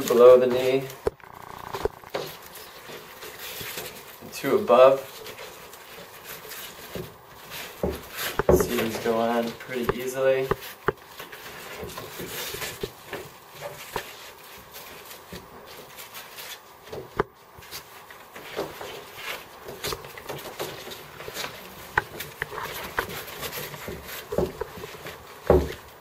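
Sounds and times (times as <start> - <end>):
strap webbing rustling: 0.0 - 26.0.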